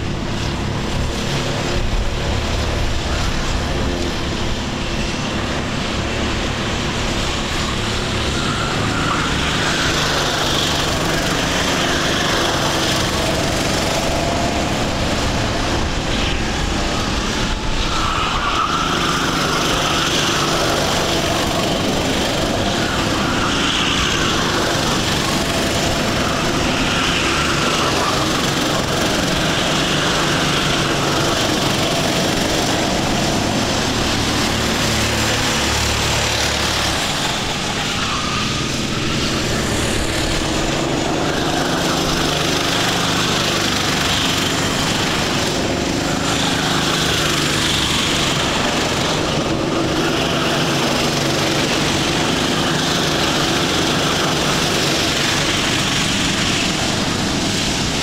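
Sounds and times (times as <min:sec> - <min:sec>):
kart engines passing: 0:00.0 - 0:58.0.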